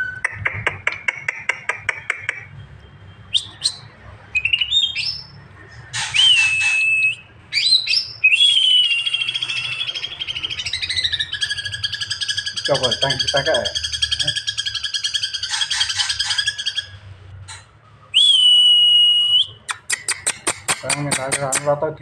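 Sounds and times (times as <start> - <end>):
bird singing and trilling: 0.0 - 21.8.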